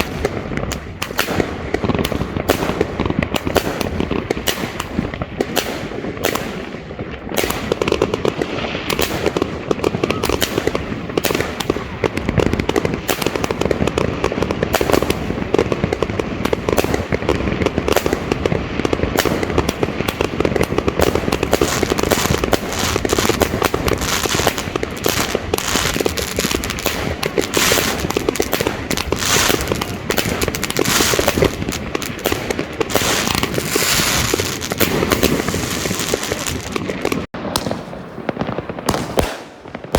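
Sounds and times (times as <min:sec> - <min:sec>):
fireworks crackling: 0:00.0 - 0:39.9
fireworks firing shots: 0:00.0 - 0:39.9.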